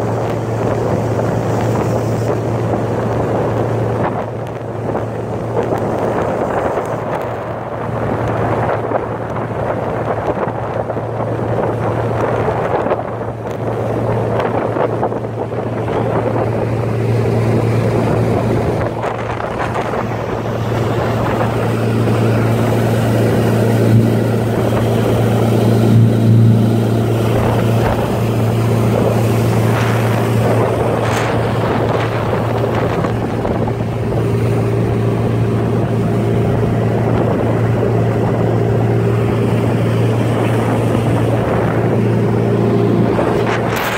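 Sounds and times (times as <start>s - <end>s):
motorboat engine humming: 0.0s - 43.9s
rushing water: 0.0s - 43.9s
rushing wind: 0.0s - 43.9s.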